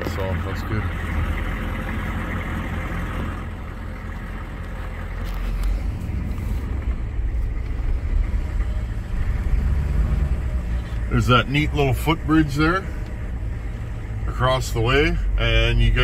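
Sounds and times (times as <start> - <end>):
low engine and road rumble: 0.0 - 16.0.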